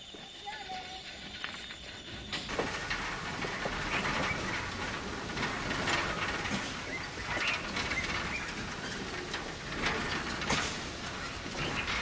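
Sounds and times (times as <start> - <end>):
train clacks: 0.0 - 12.0
train rumble and rail noise: 0.0 - 12.0.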